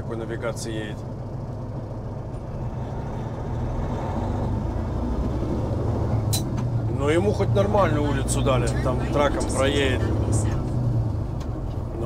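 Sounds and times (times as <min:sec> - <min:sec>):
diesel truck engine rumble: 0:00.0 - 0:12.0.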